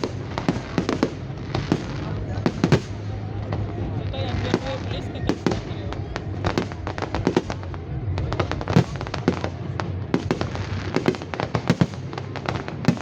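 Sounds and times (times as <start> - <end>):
fireworks bursting: 0.0 - 13.0
steady low rumble: 0.0 - 13.0.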